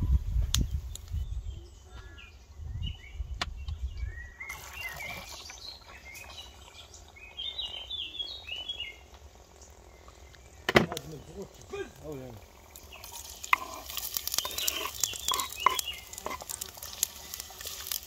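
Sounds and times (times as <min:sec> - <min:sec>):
birds chirping and singing: 0:00.7 - 0:18.0.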